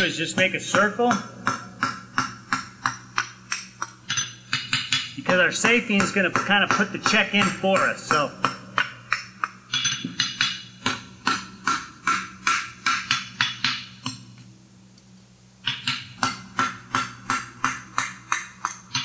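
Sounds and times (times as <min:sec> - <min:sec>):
hammer striking steel on anvil: 0:00.0 - 0:14.2, 0:15.7 - 0:19.0.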